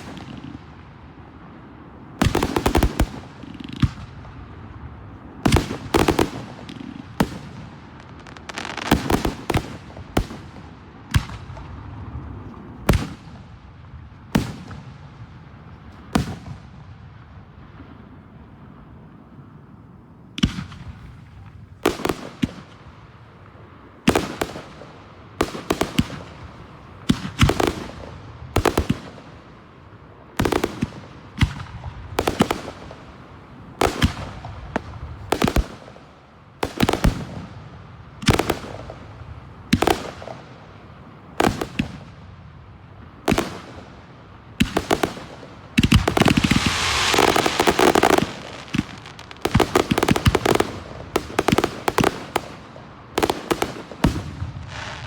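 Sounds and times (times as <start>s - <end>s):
firework bursts booming: 0.0s - 18.8s, 20.3s - 55.0s.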